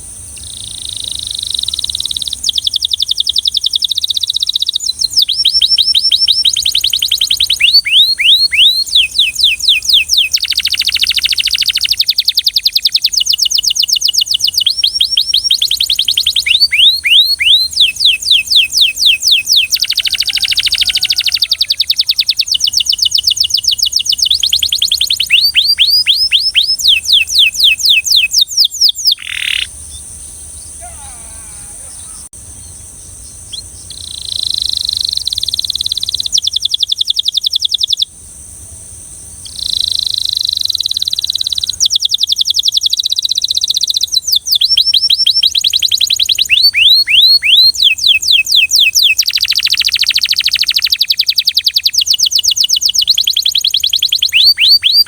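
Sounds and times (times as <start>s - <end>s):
canary singing with fast trills: 0.0s - 38.1s, 39.4s - 55.0s.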